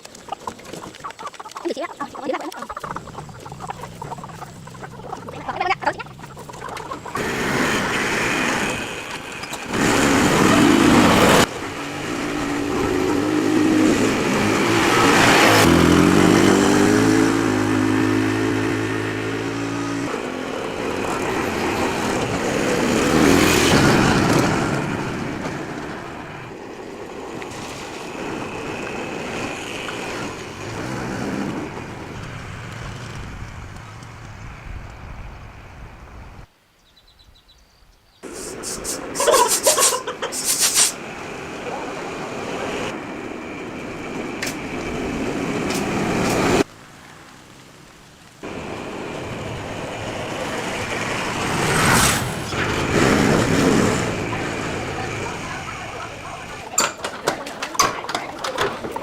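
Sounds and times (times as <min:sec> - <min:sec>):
motorbike engines passing: 0:00.4 - 0:36.4, 0:38.2 - 0:46.7, 0:48.0 - 0:59.0.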